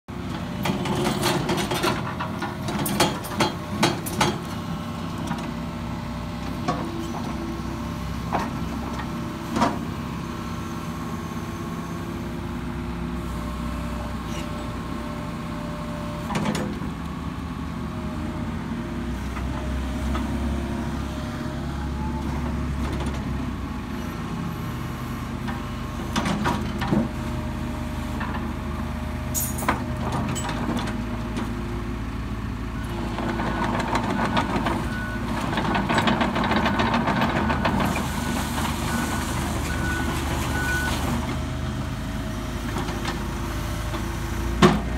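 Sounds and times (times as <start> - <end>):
excavator diesel engine running: 0.1 - 44.9.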